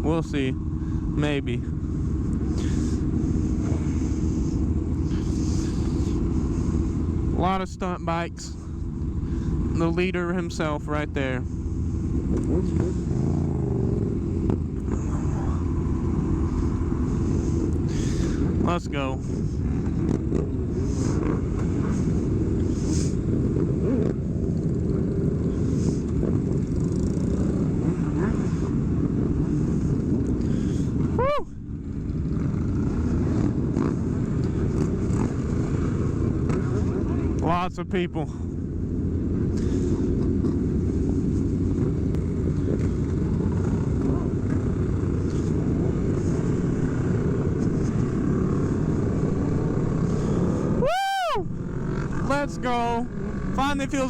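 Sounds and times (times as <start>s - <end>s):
motorcycle engines running: 0.0s - 54.0s.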